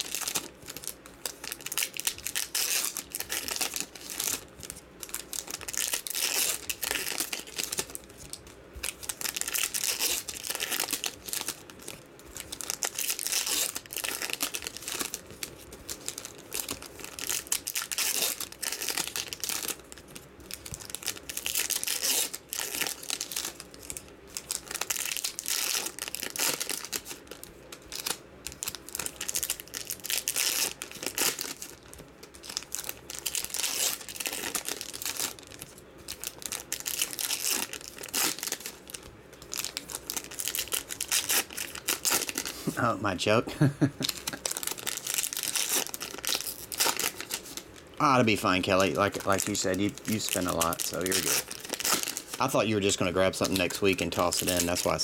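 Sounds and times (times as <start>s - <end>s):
foil wrappers crinkling and tearing: 0.0s - 55.0s.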